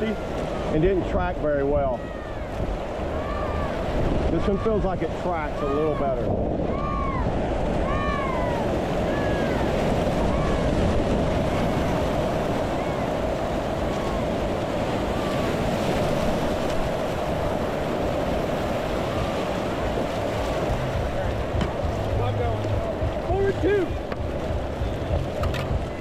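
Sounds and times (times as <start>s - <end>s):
whitewater rushing: 0.0s - 26.0s
wind buffeting microphone: 0.0s - 26.0s.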